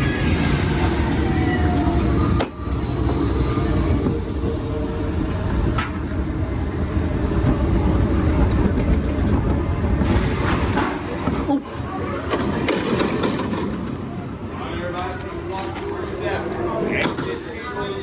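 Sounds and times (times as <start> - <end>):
roller coaster rumbling on track: 0.0 - 18.0.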